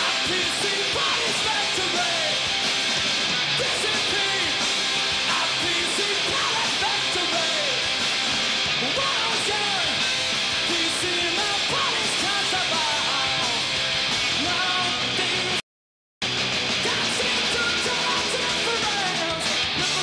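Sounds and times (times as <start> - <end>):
rock music with guitar: 0.0 - 15.6, 16.2 - 20.0.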